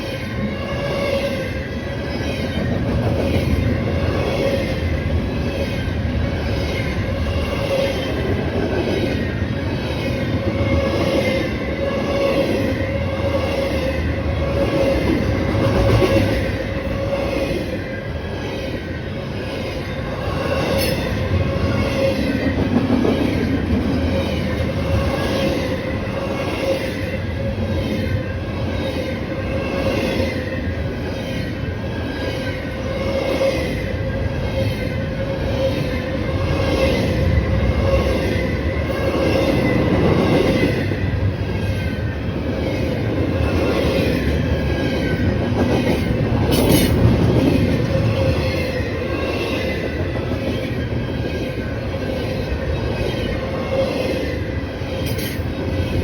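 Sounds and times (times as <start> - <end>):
train cars rolling by: 0.0 - 56.0.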